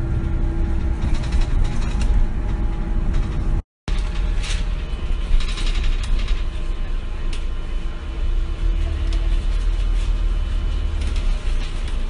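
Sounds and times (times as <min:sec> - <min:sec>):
bus body rattles and clicks: 0:00.0 - 0:12.0
bus engine rumble: 0:00.0 - 0:12.0.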